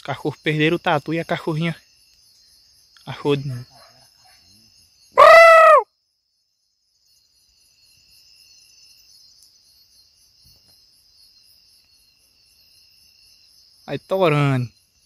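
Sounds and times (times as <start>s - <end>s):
crickets trilling: 0.0s - 15.0s
pulsing insect chirp: 0.0s - 15.0s.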